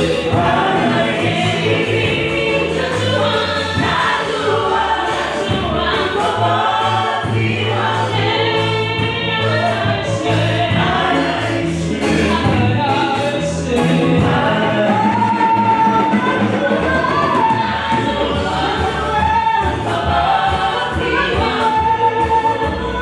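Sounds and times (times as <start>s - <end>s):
choir singing: 0.0s - 23.0s
low bass notes: 0.0s - 23.0s.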